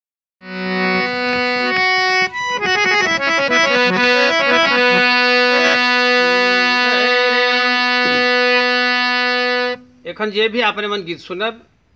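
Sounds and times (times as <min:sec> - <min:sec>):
harmonium playing: 0:00.4 - 0:10.0.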